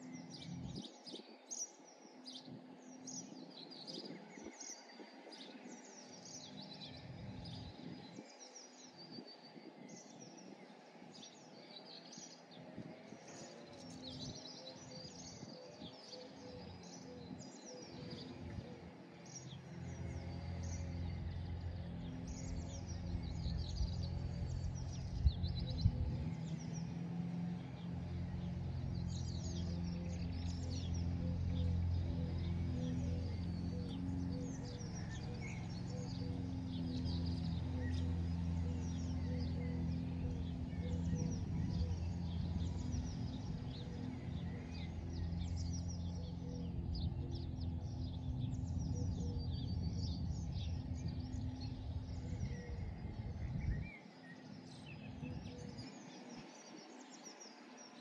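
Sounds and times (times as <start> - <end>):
low motor hum: 0.0 - 58.0
small birds chirping: 0.0 - 58.0.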